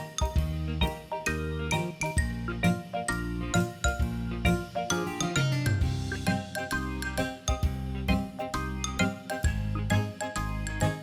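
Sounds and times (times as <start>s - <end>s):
bouncy children's tune: 0.0s - 11.0s.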